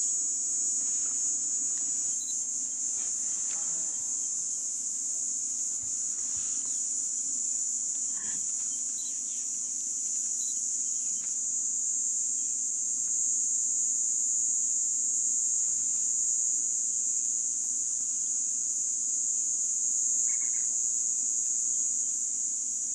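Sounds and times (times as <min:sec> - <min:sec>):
short insect calls: 0:00.0 - 0:13.8, 0:15.2 - 0:22.9
insect chorus drone: 0:00.0 - 0:22.9.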